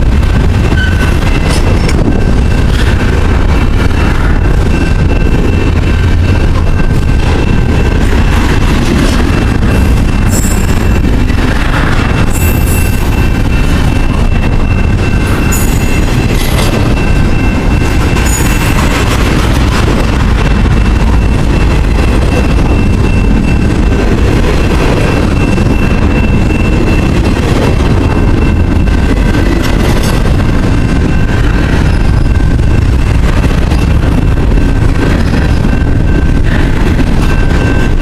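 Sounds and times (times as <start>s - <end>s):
high whine: 0.0s - 38.0s
train wheels rumbling on rail: 0.0s - 38.0s.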